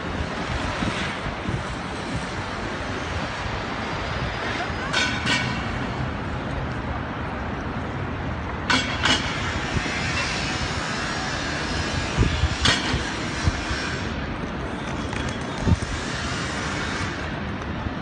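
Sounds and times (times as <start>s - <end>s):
city traffic hum: 0.0s - 18.0s.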